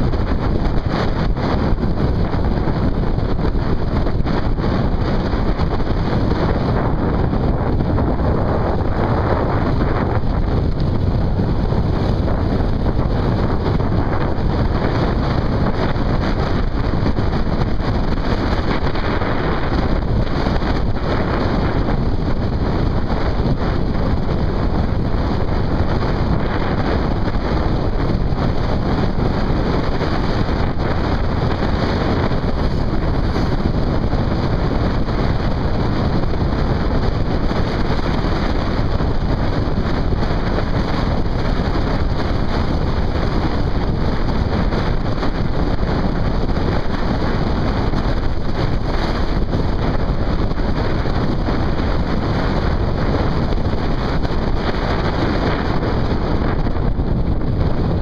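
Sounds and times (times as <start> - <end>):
vehicle and road noise: 0.0 - 58.0
wind buffeting microphone: 0.0 - 58.0.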